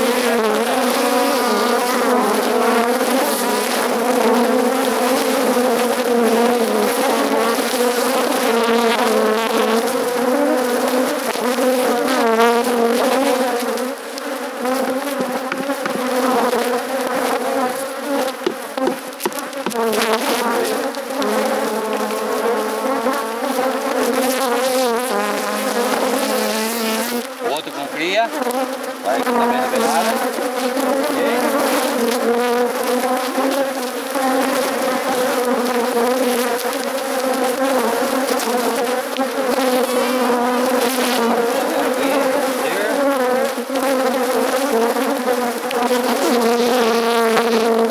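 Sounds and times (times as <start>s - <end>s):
honeybees buzzing: 0.0s - 47.9s.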